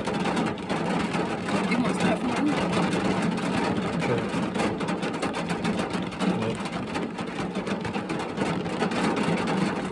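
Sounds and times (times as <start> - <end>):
rain tapping on a car: 0.0 - 9.9.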